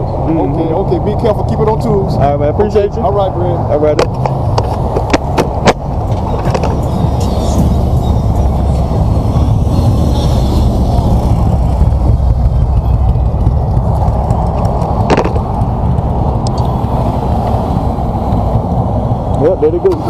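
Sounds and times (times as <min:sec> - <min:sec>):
highway traffic rumble: 0:00.0 - 0:20.0.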